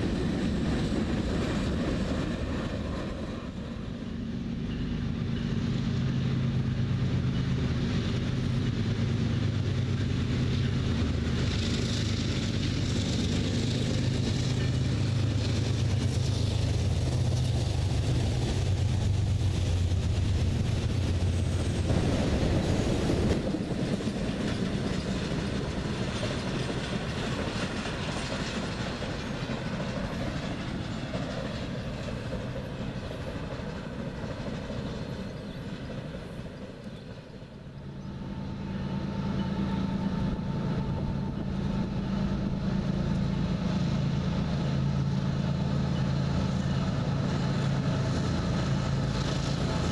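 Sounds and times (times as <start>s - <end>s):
freight cars rumbling over rails: 0.0s - 49.9s
locomotive engine drone: 0.0s - 49.9s.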